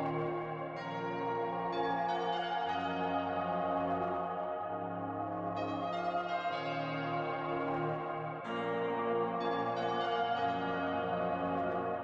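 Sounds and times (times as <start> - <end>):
ambient bell-like music: 0.0 - 12.0.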